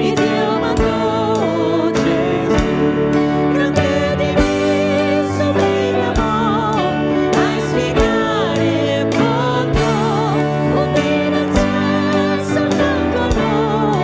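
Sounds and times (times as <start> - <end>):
instrumental accompaniment with beat: 0.0 - 14.0
woman singing a hymn: 0.0 - 14.0.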